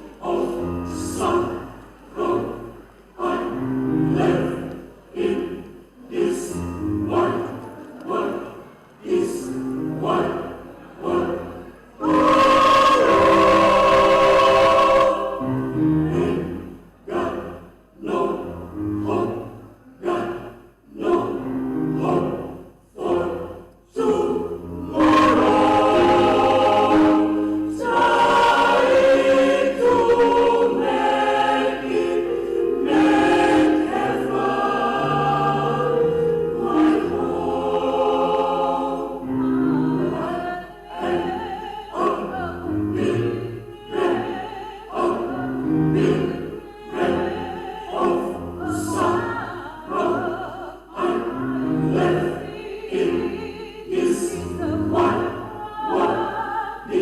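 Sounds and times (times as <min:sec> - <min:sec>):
small choir singing: 0:00.0 - 0:57.0.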